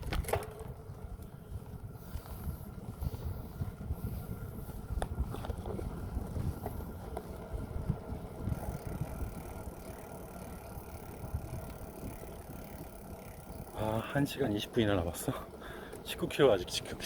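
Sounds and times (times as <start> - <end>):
bicycle clicks and rattles: 0.0 - 17.0
bicycle tyres rumbling on path: 0.0 - 17.0.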